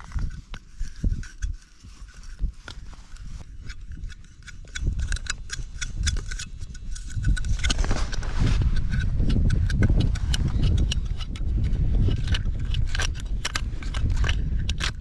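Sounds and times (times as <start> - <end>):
plastic rod stand clicking and scraping: 0.0 - 15.0
wind rumble on microphone: 0.0 - 15.0.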